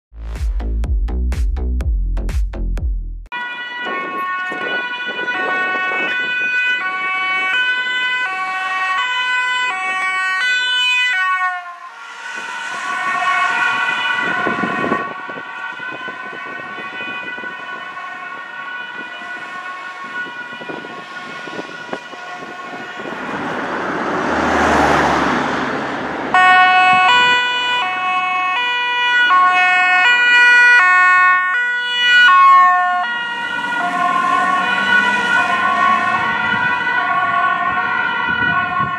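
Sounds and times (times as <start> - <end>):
vehicle engine and road noise: 0.1 - 30.7, 32.0 - 38.9
ambulance two-tone siren: 3.3 - 23.8, 26.3 - 38.9.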